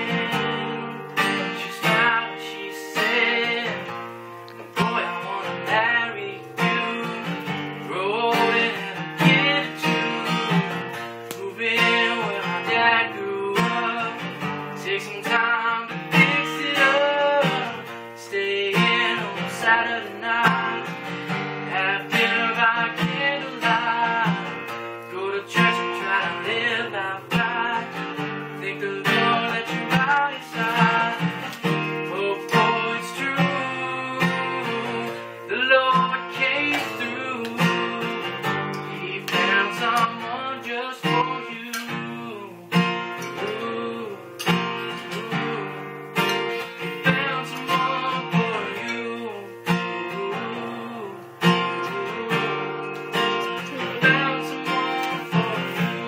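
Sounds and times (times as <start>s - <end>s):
acoustic guitar strumming: 0.0s - 56.0s
man singing: 0.0s - 56.0s.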